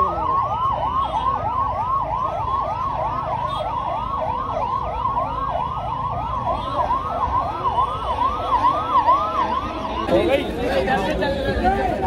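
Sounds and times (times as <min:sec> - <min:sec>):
ambulance siren wailing: 0:00.0 - 0:12.0.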